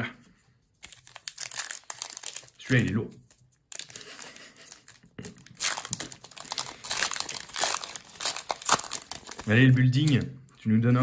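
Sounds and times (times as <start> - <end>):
foil wrapper crinkling: 0.8 - 10.2.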